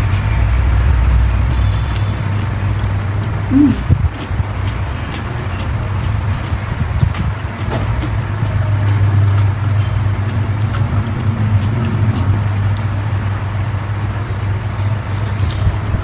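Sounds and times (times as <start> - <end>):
mouth clicks: 0.0 - 12.9
chewing raw vegetable leaves: 0.0 - 16.0
steady low rumble: 0.0 - 16.0.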